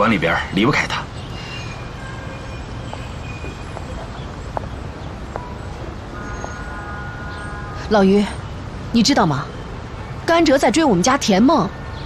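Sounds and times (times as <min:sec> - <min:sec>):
distant traffic rumble and hiss: 0:00.0 - 0:12.0.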